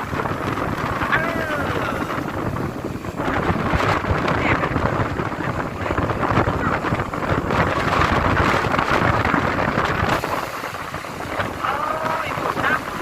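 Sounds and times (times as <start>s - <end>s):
heavy surf: 0.0s - 13.0s
strong wind on microphone: 0.0s - 13.0s.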